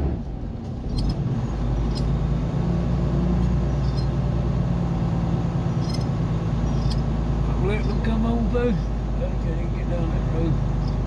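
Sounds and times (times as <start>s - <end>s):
car engine hum: 0.0s - 11.0s
road noise inside car: 0.0s - 11.0s.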